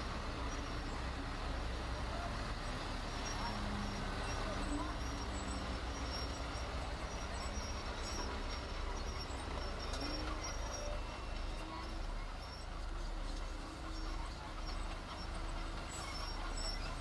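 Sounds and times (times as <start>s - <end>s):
heavy diesel machinery rumbling: 0.0s - 17.0s.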